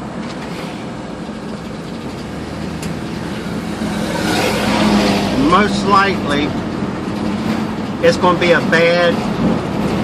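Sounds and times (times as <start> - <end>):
road and engine noise in cabin: 0.0 - 10.0.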